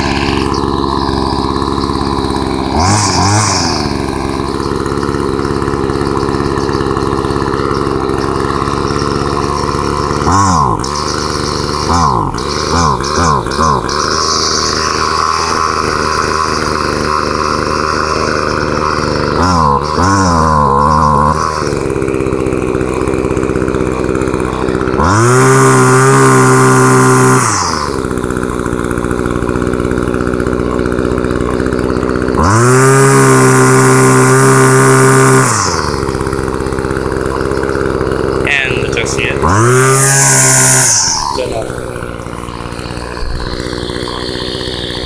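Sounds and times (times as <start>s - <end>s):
two-stroke engine idling and revving: 0.0s - 45.0s.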